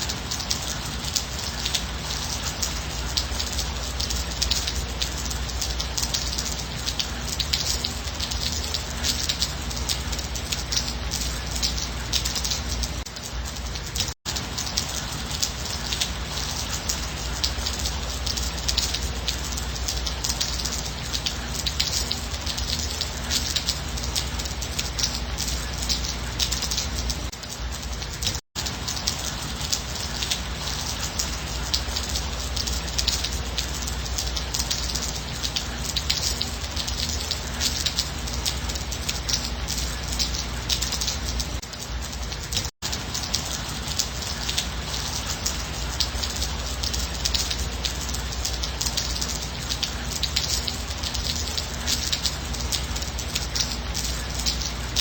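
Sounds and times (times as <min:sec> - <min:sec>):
gentle rain patter: 0:00.0 - 0:55.0.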